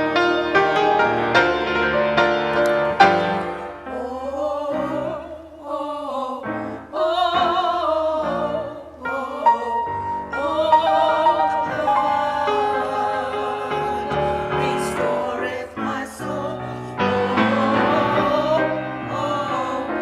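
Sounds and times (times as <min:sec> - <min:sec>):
piano chords: 0:00.0 - 0:05.4, 0:06.4 - 0:20.0
classical singing voice: 0:00.0 - 0:20.0.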